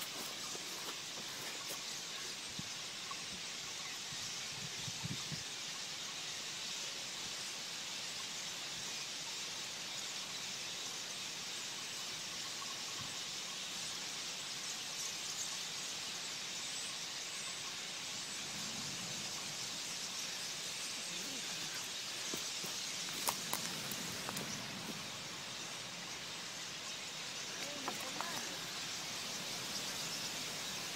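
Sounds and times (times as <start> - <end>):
flock of birds calling: 0.0 - 30.9.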